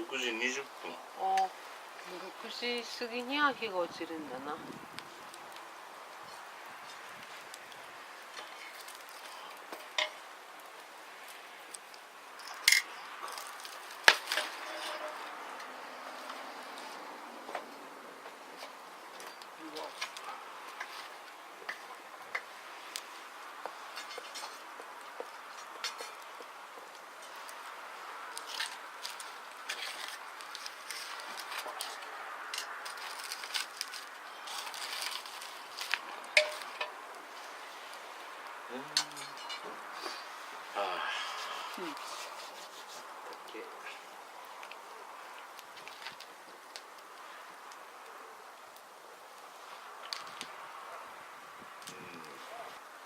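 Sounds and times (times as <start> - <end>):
campfire crackling and popping: 0.0 - 53.0
soft steady hiss: 0.0 - 53.0.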